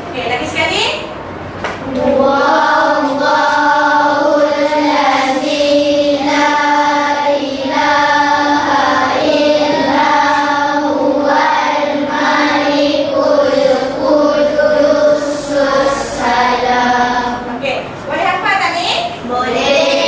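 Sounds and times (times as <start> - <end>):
children chanting in unison: 1.8 - 17.5, 19.2 - 20.0.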